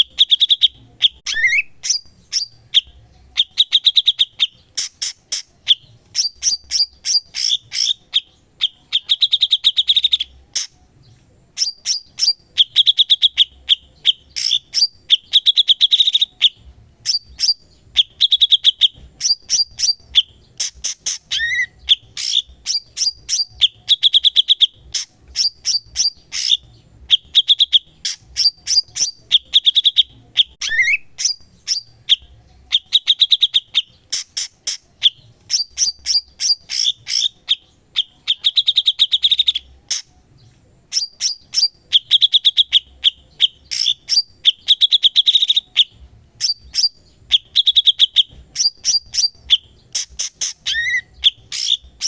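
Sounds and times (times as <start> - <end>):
bird chattering song: 0.0 - 52.0.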